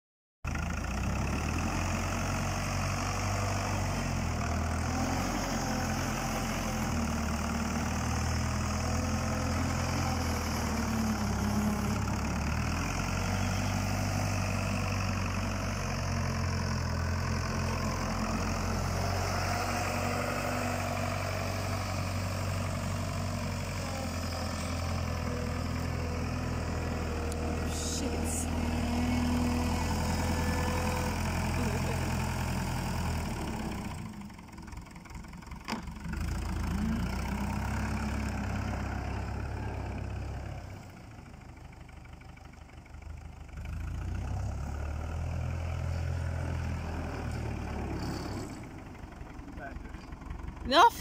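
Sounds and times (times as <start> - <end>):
engine idling: 0.5 - 51.0.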